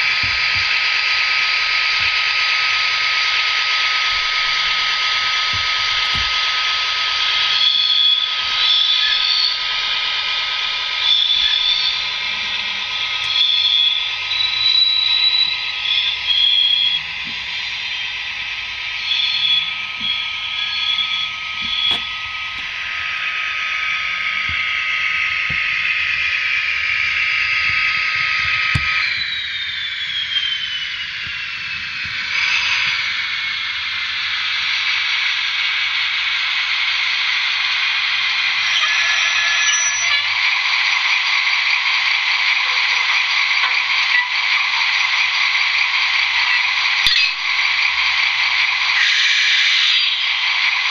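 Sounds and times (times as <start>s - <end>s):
falling whistle: 0.0s - 41.7s, 42.4s - 50.9s
model train engine sound: 0.0s - 50.9s.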